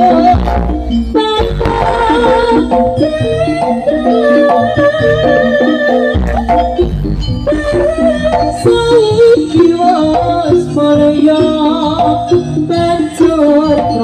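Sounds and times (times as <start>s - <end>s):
gamelan music through loudspeakers: 0.0s - 14.0s.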